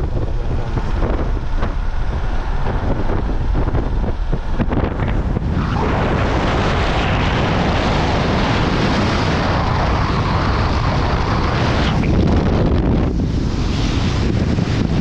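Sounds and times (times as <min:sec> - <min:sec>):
car road and tyre noise: 0:00.0 - 0:15.0
wind buffeting microphone: 0:00.0 - 0:15.0.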